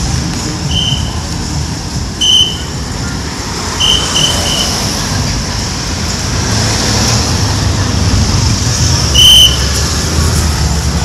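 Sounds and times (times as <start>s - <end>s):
roadside traffic rumble: 0.0s - 11.0s.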